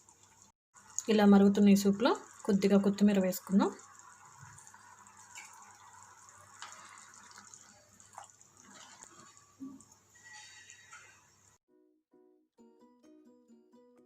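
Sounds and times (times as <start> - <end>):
soup bubbling in a pot: 0.0 - 11.6.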